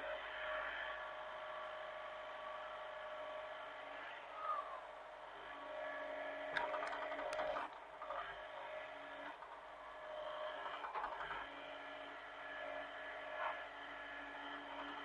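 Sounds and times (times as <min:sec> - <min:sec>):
excavator engine drone: 0:00.0 - 0:15.0.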